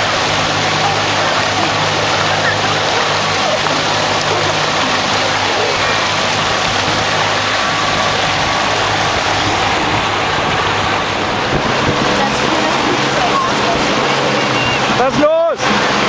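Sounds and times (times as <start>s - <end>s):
outboard motor humming: 0.0s - 16.0s
water rushing and splashing: 0.0s - 16.0s.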